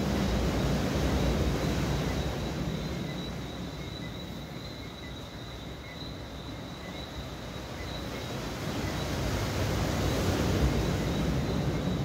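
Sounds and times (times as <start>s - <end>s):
chorus of night insects: 0.0s - 12.0s.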